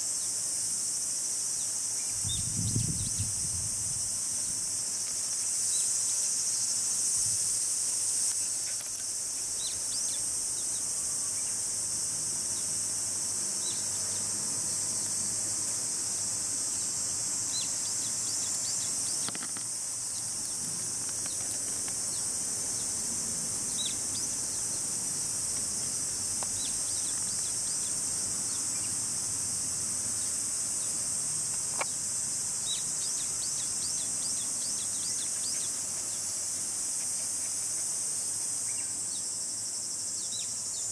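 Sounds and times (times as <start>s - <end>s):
insects chorus: 0.0s - 40.9s.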